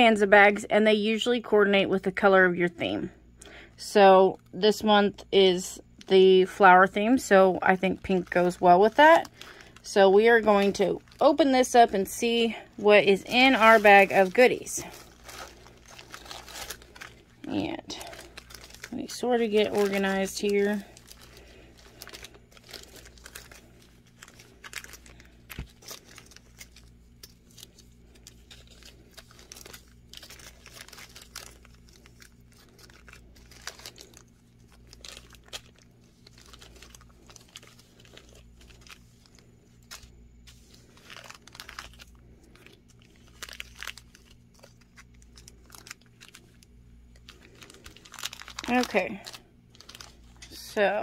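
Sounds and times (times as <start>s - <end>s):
faint low hum: 0.0s - 51.0s
plastic bags crinkling: 6.0s - 51.0s.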